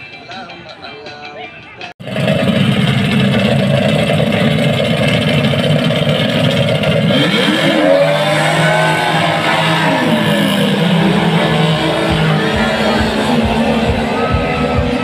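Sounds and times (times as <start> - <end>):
outboard engines at full throttle: 2.0 - 15.0.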